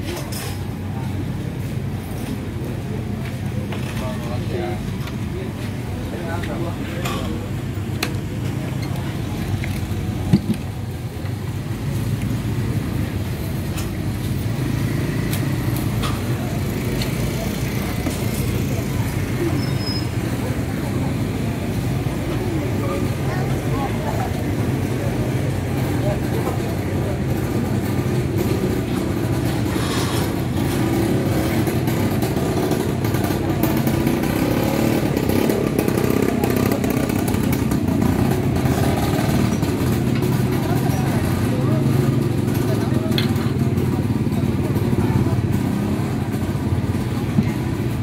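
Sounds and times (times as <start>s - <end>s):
street traffic rumble: 0.0s - 48.0s.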